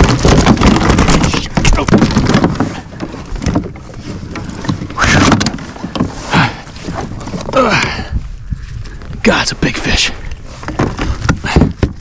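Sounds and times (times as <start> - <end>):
knocks and rustles in a kayak: 0.0 - 12.0.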